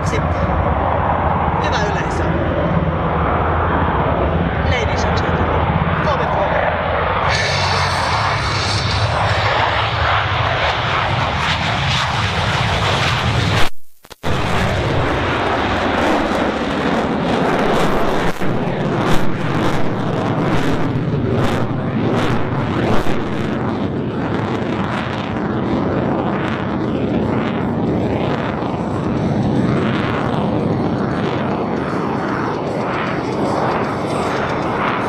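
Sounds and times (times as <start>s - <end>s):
jet engine roar: 0.0s - 35.0s.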